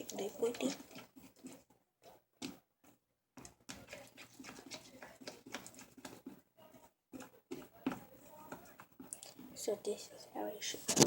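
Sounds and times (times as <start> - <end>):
slime being stirred clicking: 0.0 - 9.6.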